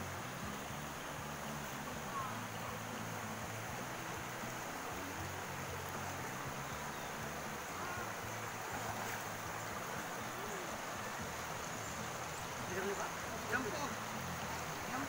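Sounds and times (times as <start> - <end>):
water rushing past boat: 0.0 - 15.0.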